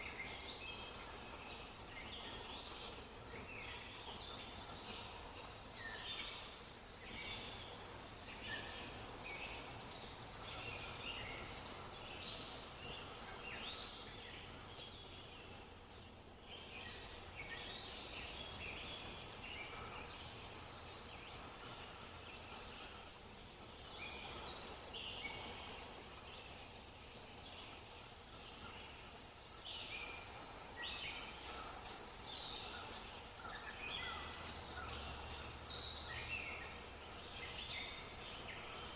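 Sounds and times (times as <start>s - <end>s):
faint steady hiss: 0.0s - 38.9s
small birds chirping: 0.0s - 38.9s.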